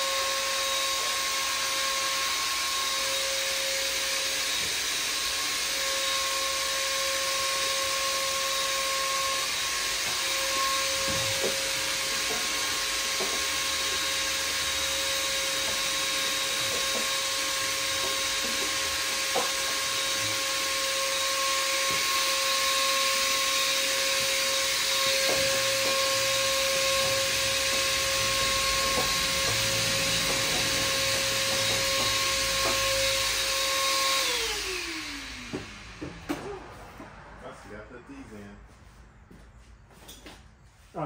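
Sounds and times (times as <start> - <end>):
vacuum motor winding down: 0.0 - 38.2
shop vacuum whining: 0.0 - 41.0.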